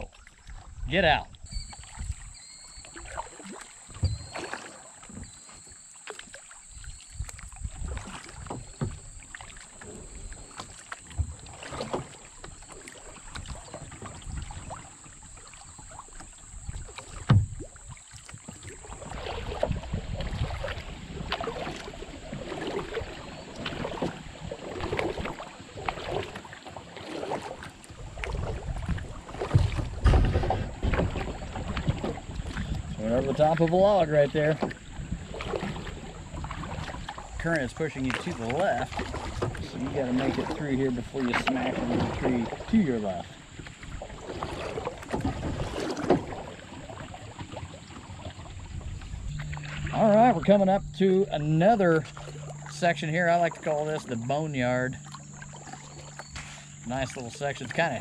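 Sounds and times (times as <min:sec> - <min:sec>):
paddles splashing and dripping: 0:00.0 - 0:58.0
water and wind noise: 0:00.0 - 0:58.0
kayak knocks: 0:01.5 - 0:58.0.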